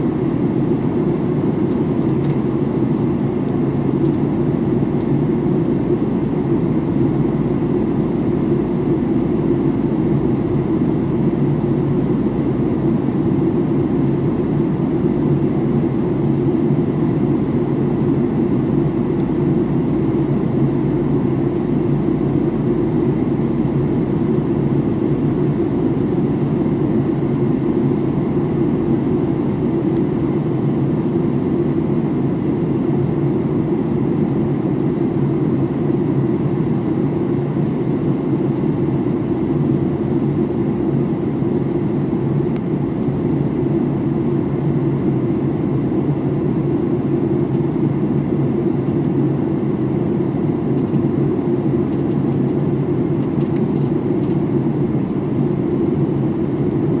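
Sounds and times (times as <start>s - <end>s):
engine and airflow rush: 0.0s - 57.0s
faint steady hum: 0.0s - 57.0s.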